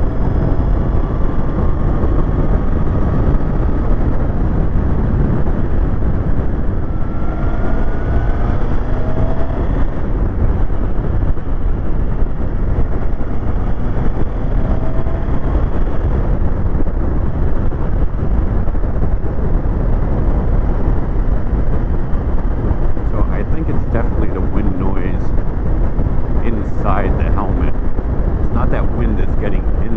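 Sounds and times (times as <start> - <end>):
faint motorcycle engine: 0.0 - 29.9
wind buffeting helmet microphone: 0.0 - 29.9.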